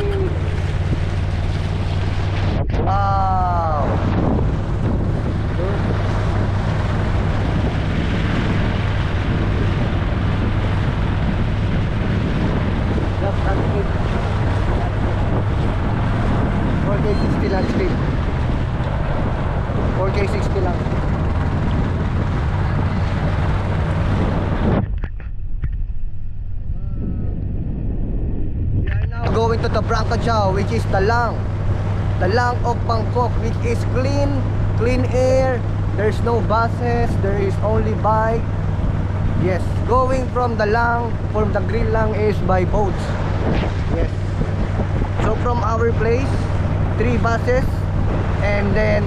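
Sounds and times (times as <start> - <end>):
boat engine humming: 0.0 - 25.4, 29.1 - 49.0
wind on microphone: 0.0 - 49.0.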